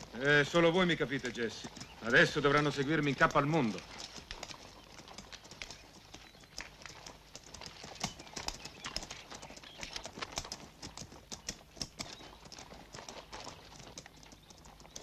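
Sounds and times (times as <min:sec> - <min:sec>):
horse hooves clip-clopping on dirt: 0:00.0 - 0:15.0.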